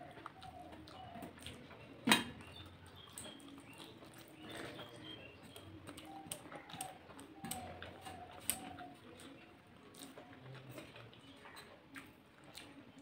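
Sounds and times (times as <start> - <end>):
chewing clicks and smacks: 0.0 - 13.0.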